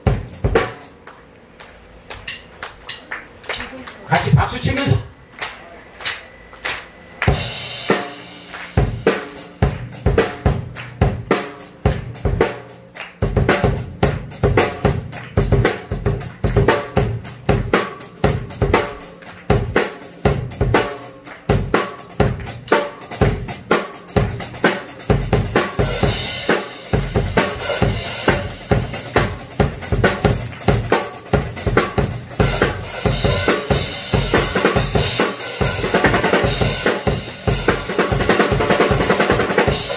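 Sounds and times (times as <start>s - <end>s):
cymbals: 7.2s - 39.9s
snare drum: 7.2s - 39.9s.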